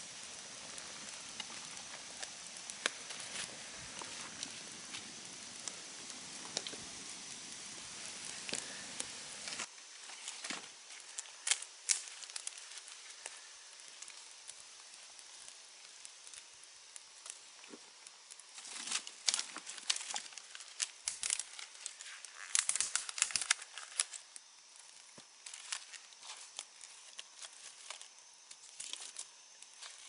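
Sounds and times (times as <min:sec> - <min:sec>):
campfire crackling: 0:00.0 - 0:30.0
steady hiss: 0:00.0 - 0:30.0
sharp pops of fire: 0:00.1 - 0:30.0.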